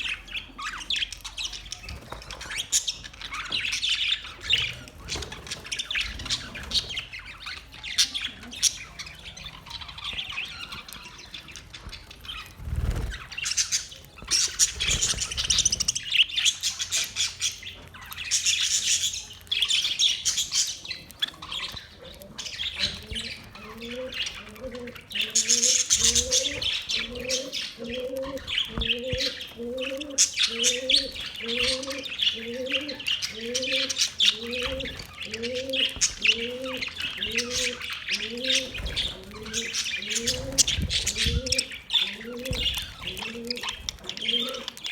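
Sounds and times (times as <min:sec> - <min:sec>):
budgerigars chirping and chattering: 0:00.0 - 0:44.9.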